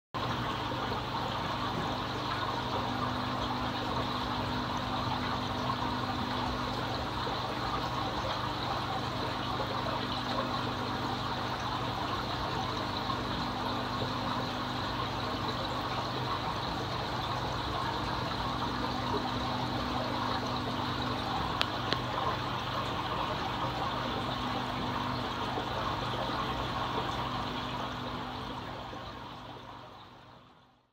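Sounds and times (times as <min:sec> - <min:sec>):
water trickling: 0:00.2 - 0:30.8
low pump hum: 0:00.2 - 0:30.9.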